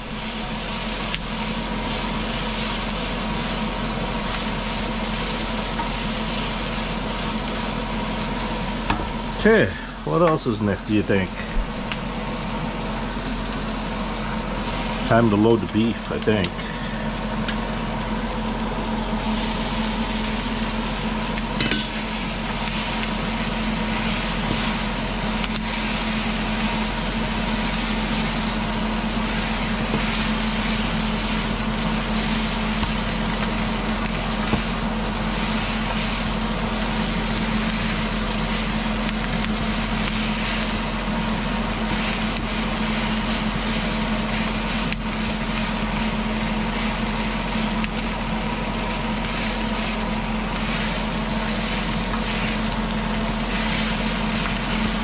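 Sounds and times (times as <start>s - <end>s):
beef sizzling in a hot pan: 0.0s - 10.1s, 11.2s - 55.0s
low hum: 0.0s - 55.0s.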